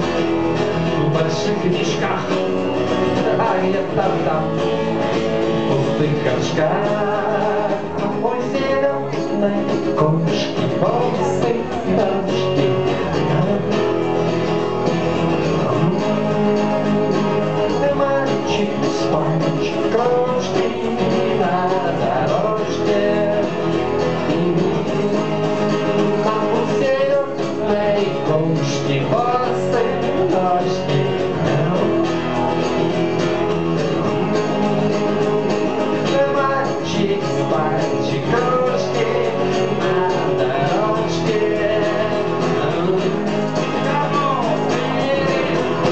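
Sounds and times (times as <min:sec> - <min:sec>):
acoustic guitar strummed: 0:00.0 - 0:45.9
man singing: 0:00.0 - 0:45.9.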